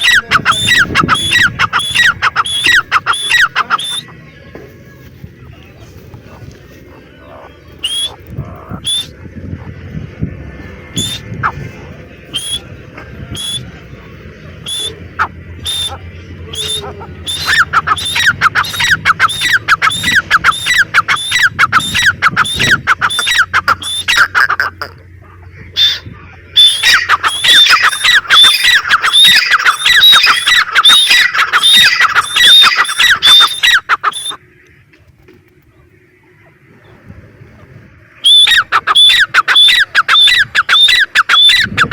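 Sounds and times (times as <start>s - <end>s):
francolin calling: 0.0s - 4.3s, 6.3s - 9.3s, 10.9s - 11.6s, 12.2s - 34.5s, 38.0s - 41.9s.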